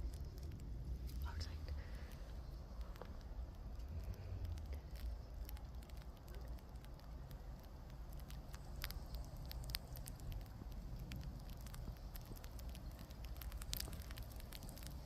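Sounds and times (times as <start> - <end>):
snow pellets pattering: 0.0 - 15.0
steady low rumble: 0.0 - 15.0.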